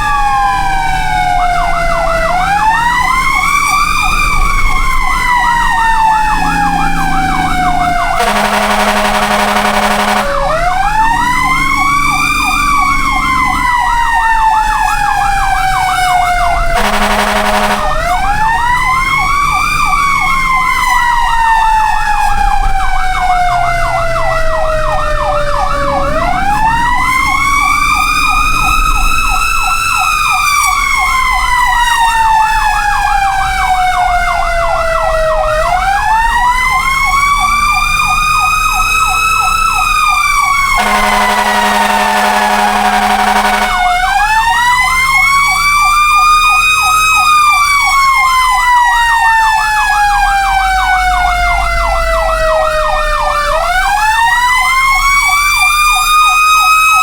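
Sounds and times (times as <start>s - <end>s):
fast warbling siren yelp: 0.0s - 57.0s
fire truck siren wail: 0.0s - 57.0s
loud siren burst: 0.0s - 57.0s.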